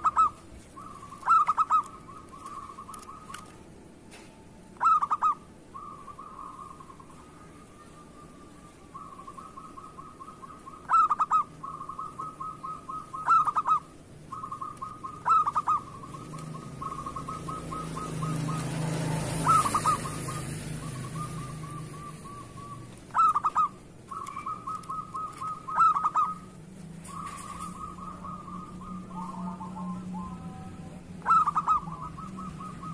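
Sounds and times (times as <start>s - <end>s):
dove cooing: 0.0s - 4.2s, 4.8s - 32.9s.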